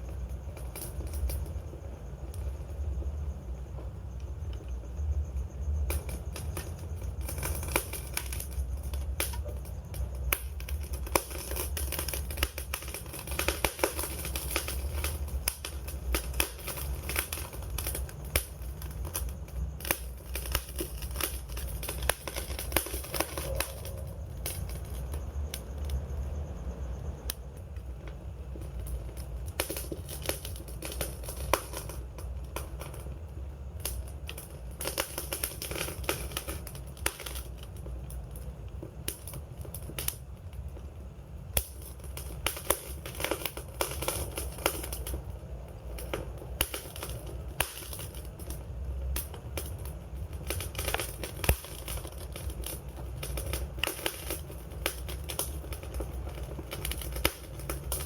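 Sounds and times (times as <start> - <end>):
campfire wood crackling: 0.0 - 58.0
low rumble of flame: 0.0 - 58.0.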